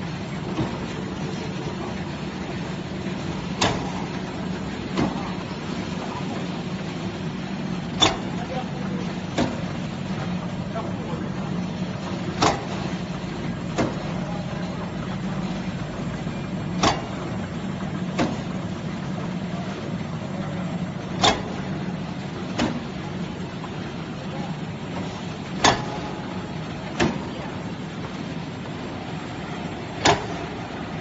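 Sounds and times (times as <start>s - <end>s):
production line humming: 0.0s - 31.0s.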